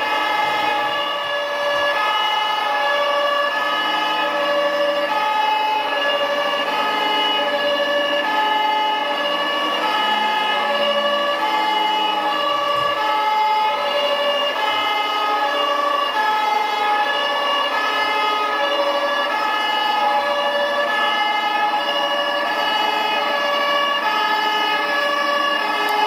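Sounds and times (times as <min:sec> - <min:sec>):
two-tone fire engine siren: 0:00.0 - 0:26.0.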